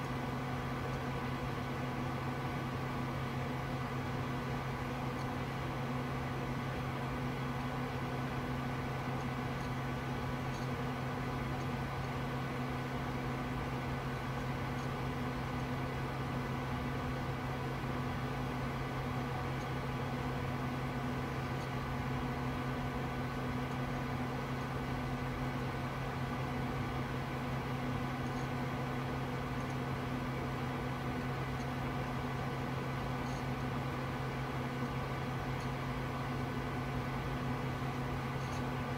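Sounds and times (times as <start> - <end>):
computer cooling fans whirring: 0.0 - 38.9.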